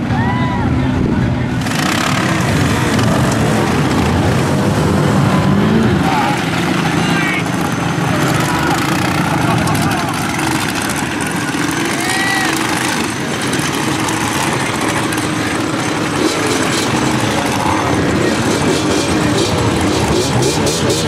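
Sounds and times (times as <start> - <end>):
small off-road engines running: 0.0 - 21.0.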